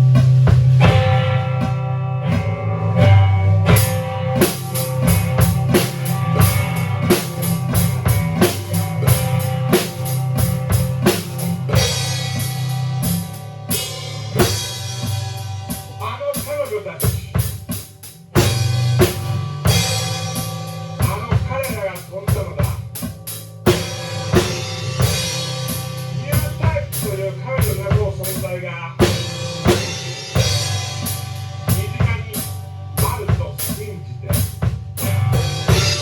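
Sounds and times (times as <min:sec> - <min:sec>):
cymbals: 0:00.0 - 0:36.0
rock band playing live: 0:00.0 - 0:36.0.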